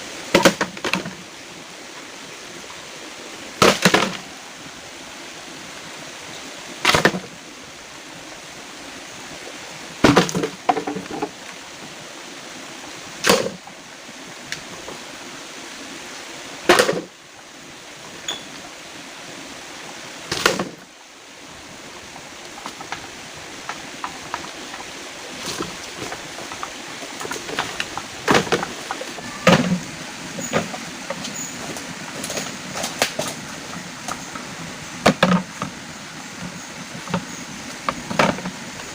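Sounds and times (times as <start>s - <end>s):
rain hissing: 0.0s - 38.9s.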